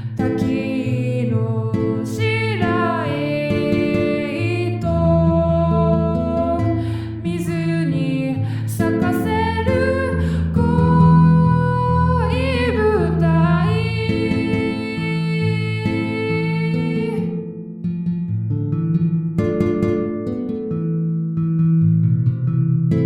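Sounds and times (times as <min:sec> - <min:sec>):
guitar: 0:00.0 - 0:23.0.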